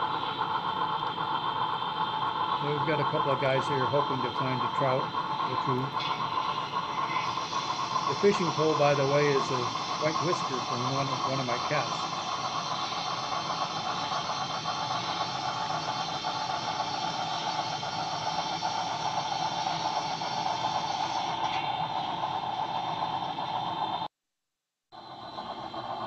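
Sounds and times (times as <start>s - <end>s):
model train running: 0.0s - 24.1s, 25.0s - 26.0s.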